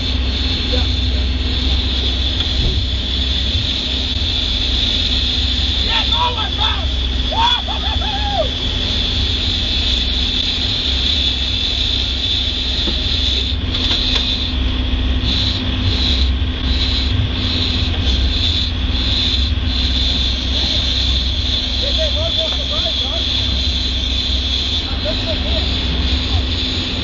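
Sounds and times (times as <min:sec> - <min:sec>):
motorboat engine drone: 0:00.0 - 0:27.0
rushing wash of boat wake: 0:00.0 - 0:27.0.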